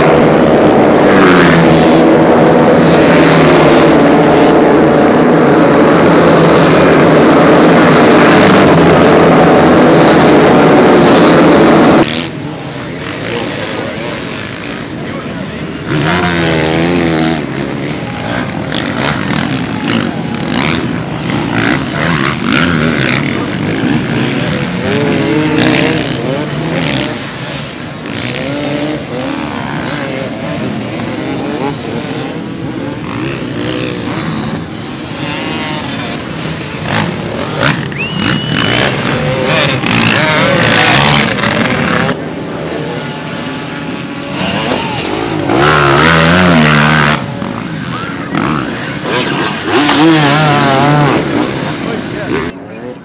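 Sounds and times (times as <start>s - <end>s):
motorcycle engines revving: 0.0s - 53.0s
motorcycle passing close: 0.0s - 53.0s.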